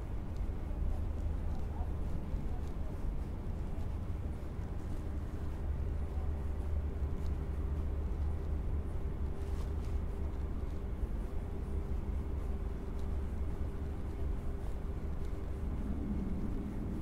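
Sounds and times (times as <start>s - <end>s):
city background rumble: 0.0s - 17.0s
faint steady hum: 0.0s - 17.0s.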